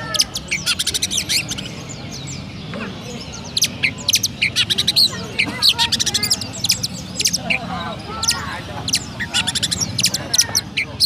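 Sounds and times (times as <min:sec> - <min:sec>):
bird singing sharp high chirps: 0:00.0 - 0:11.0.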